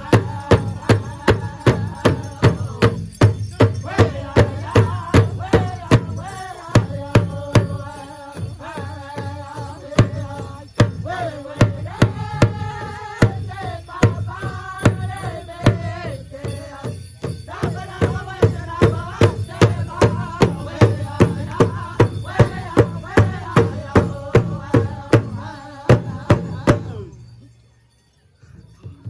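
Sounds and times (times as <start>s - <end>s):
group singing in high voices: 0.0s - 27.2s.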